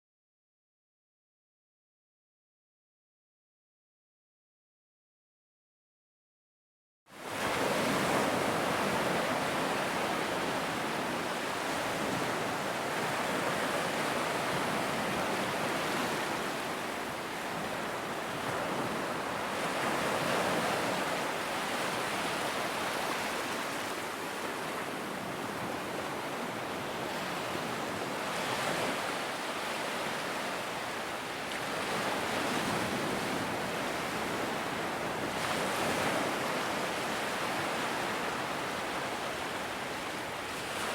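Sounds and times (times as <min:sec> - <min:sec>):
ocean waves breaking: 0:07.2 - 0:40.9.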